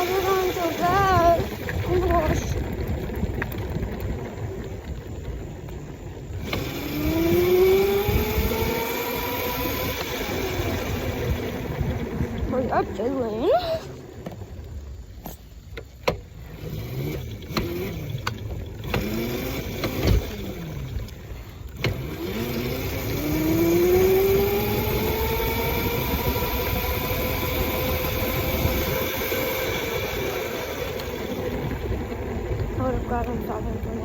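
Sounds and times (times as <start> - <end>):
small motorbike engine pulling away: 0.0 - 34.0.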